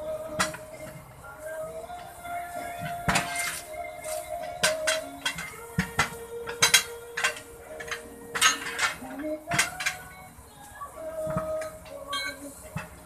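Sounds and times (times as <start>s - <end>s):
tyre irons clanking on metal rim: 0.0s - 13.0s.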